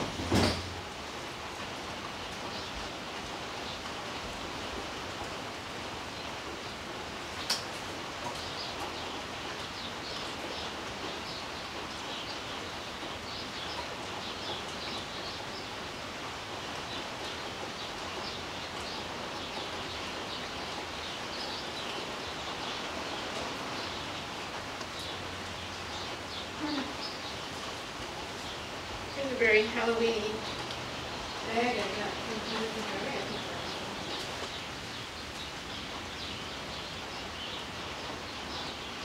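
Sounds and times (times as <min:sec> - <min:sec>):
heavy rain on leaves and wood: 0:00.0 - 0:39.0
birds chirping: 0:02.2 - 0:39.0.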